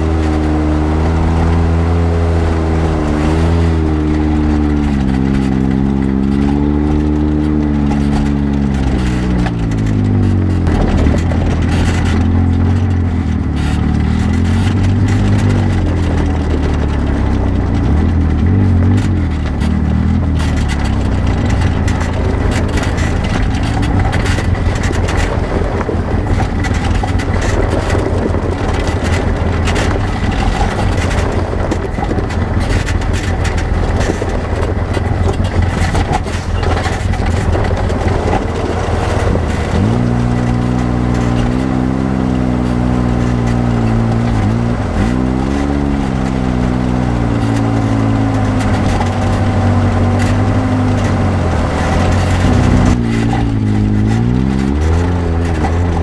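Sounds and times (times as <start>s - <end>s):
rattling and knocking: 0.0s - 56.0s
utility vehicle engine running: 0.0s - 56.0s.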